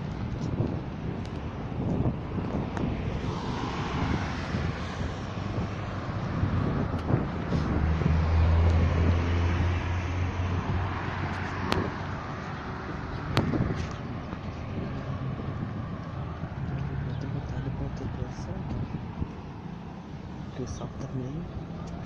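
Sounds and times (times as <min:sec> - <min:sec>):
vehicle engine hum: 0:00.0 - 0:22.0
wind rumble on microphone: 0:00.0 - 0:22.0.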